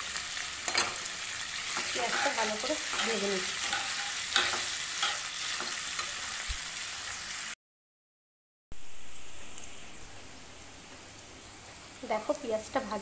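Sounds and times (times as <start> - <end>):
onions sizzling in hot oil: 0.0 - 7.6, 8.8 - 13.0.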